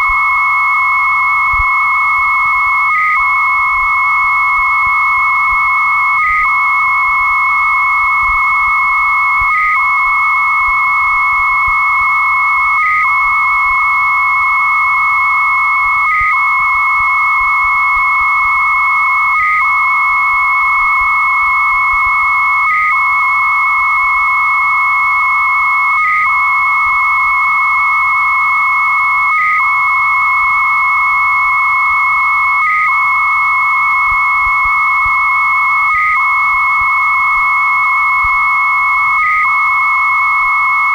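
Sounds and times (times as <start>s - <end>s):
steady high modem tone: 0.0s - 40.9s
warbling modem data tone: 0.0s - 40.9s.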